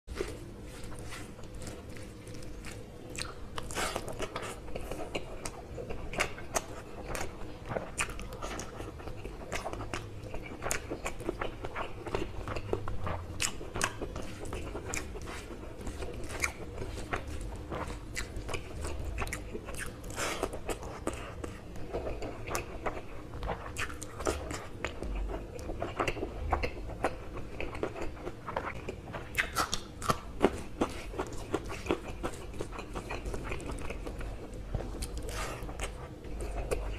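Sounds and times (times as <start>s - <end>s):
man chewing and smacking: 0.1s - 36.9s.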